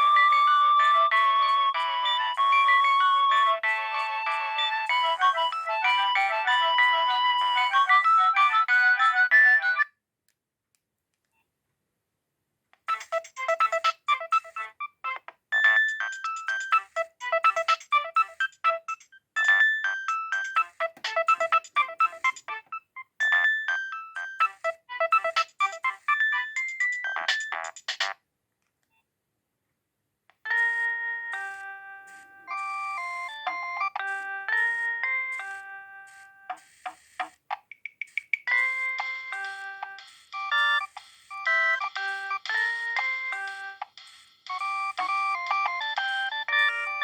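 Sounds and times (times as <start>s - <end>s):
polyphonic phone ringtone: 0.0s - 9.9s, 12.9s - 27.8s, 30.5s - 37.3s, 38.1s - 47.0s.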